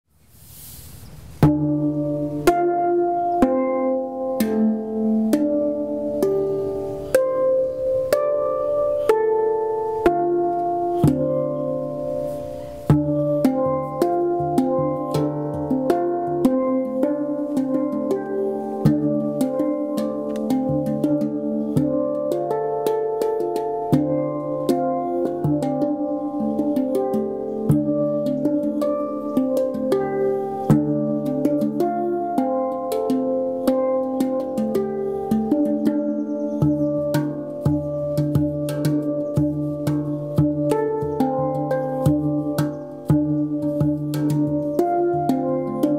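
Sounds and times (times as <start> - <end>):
deep low handpan note: 1.4 - 45.9
handpan notes ringing: 1.4 - 45.9.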